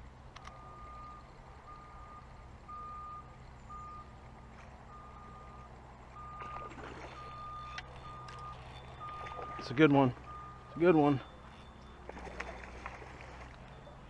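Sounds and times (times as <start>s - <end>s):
faint electronic beeping: 0.4s - 4.2s, 4.8s - 14.0s.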